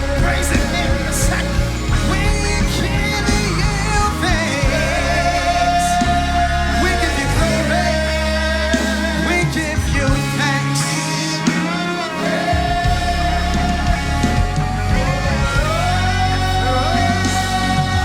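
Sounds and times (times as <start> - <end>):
band playing worship music: 0.0 - 18.0
person singing with vibrato: 0.0 - 18.0.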